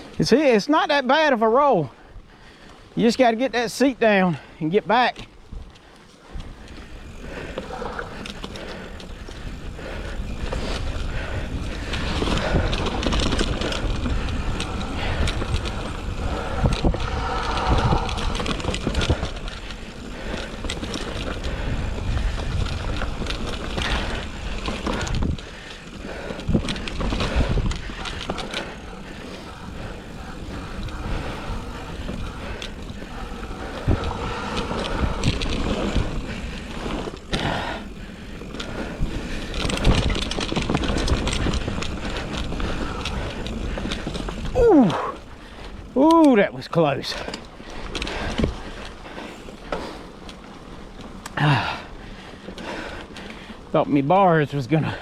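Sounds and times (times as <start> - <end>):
tyre and wind noise: 0.0 - 55.0.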